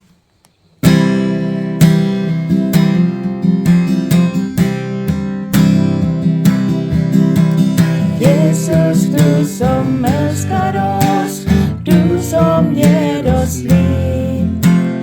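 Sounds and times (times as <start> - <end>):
acoustic guitar strumming chords: 0.8 - 15.0.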